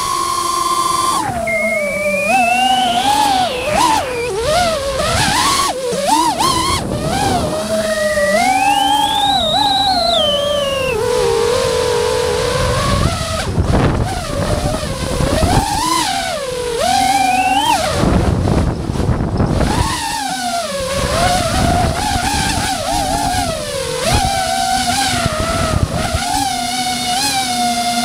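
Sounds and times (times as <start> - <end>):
drone motors whining: 0.0 - 28.0
wind noise: 1.0 - 26.7.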